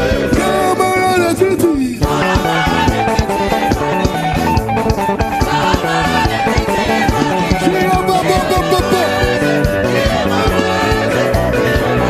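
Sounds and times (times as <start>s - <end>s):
upbeat praise band music: 0.0s - 12.0s.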